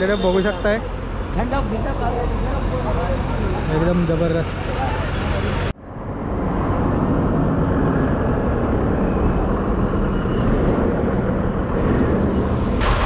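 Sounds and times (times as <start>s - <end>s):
bus engines and traffic rumble: 0.0s - 13.0s.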